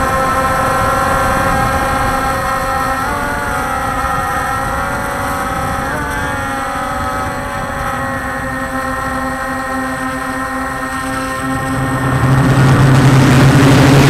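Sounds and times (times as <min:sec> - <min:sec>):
quadcopter motors whining: 0:00.0 - 0:14.0
wind noise: 0:00.0 - 0:14.0.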